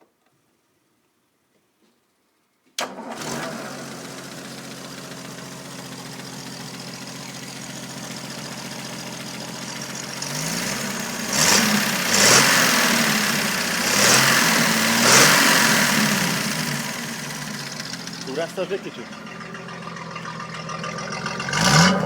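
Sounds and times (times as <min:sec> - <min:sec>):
car engine idling: 0:03.5 - 0:22.0.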